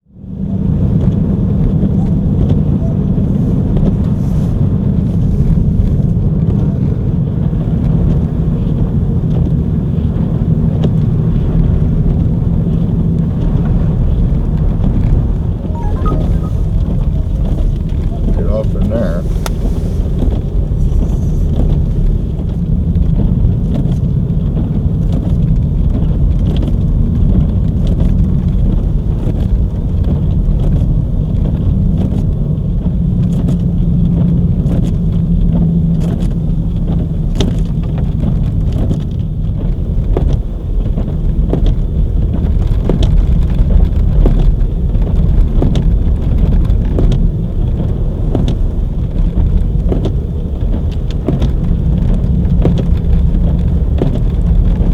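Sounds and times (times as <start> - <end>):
engine and tyres rumbling: 0.0 - 15.7, 16.6 - 54.9.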